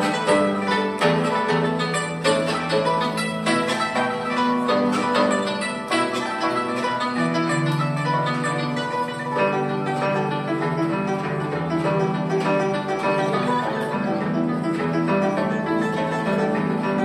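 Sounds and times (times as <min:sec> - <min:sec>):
zither plucked notes: 0:00.0 - 0:17.0.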